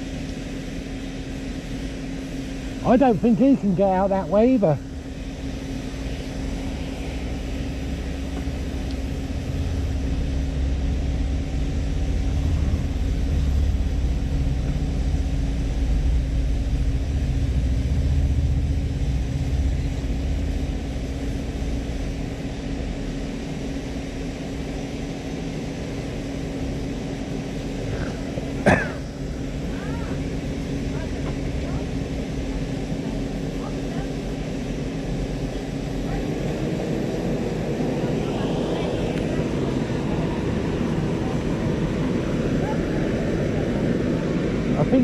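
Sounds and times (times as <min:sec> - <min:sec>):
tractor engine rumbling: 0:01.6 - 0:22.1, 0:25.8 - 0:45.0.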